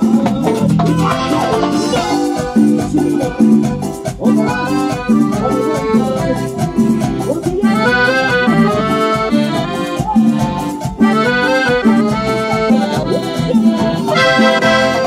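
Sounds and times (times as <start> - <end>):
accordion playing quick melody: 0.0 - 15.0.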